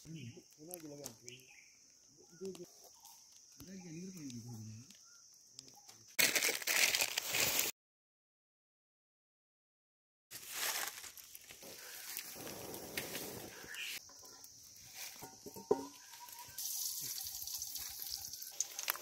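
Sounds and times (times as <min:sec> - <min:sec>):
fire crackling and hissing: 0:00.0 - 0:07.7, 0:10.3 - 0:19.0.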